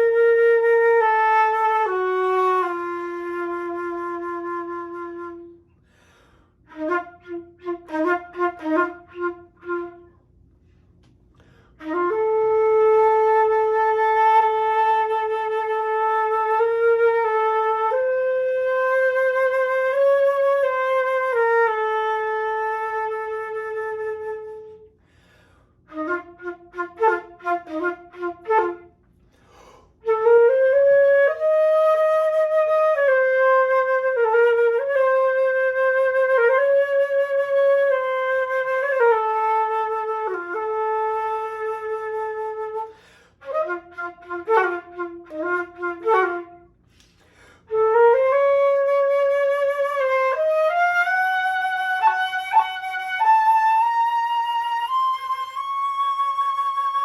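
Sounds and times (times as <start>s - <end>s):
solo flute playing: 0.0s - 5.8s, 6.7s - 10.8s, 11.8s - 25.0s, 25.9s - 29.1s, 30.0s - 57.0s.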